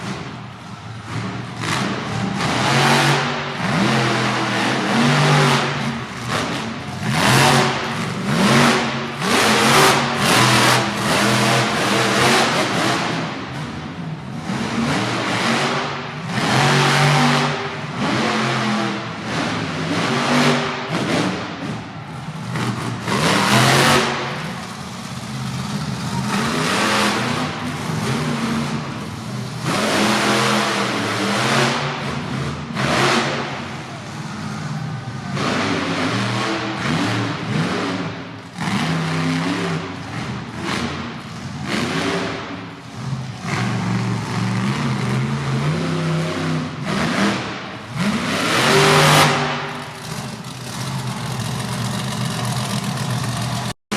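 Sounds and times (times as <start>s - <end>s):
monster truck engine revving: 0.0s - 53.8s.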